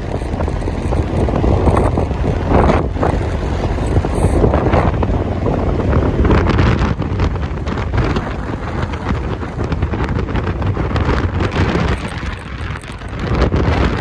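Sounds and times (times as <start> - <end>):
low rumble of vehicle travel: 0.0 - 14.0
wind buffeting microphone: 0.0 - 14.0.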